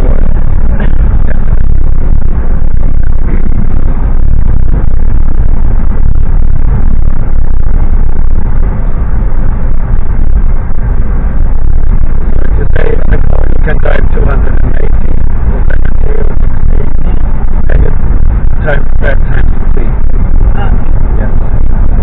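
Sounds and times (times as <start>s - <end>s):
vehicle rumbling in motion: 0.0s - 22.0s.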